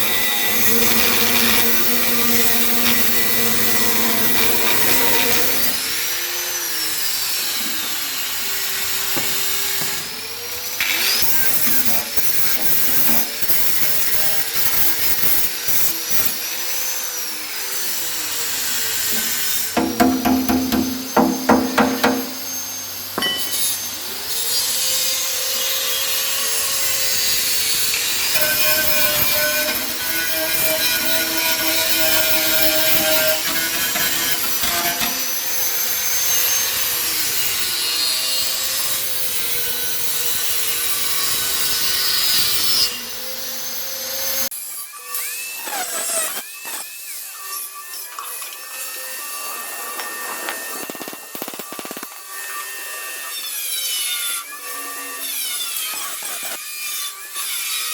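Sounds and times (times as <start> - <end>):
power tool grinding metal: 0.0 - 57.9.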